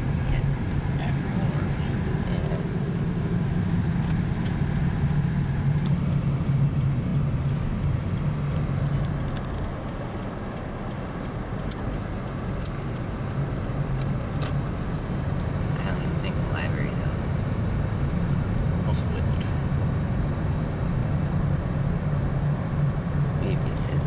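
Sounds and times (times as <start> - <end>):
car engine hum from inside cabin: 0.0 - 24.0.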